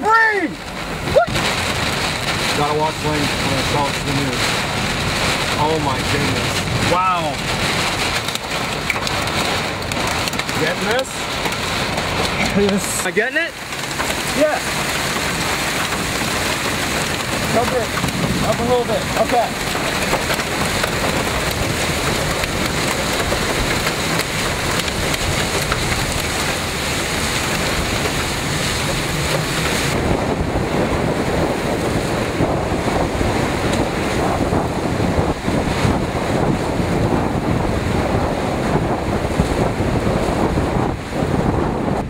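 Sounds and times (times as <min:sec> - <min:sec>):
gusting wind: 0:00.0 - 0:42.0
heavy rain pouring: 0:00.0 - 0:42.0
waves crashing against seawall: 0:00.0 - 0:42.0
wind buffeting microphone: 0:00.0 - 0:42.0.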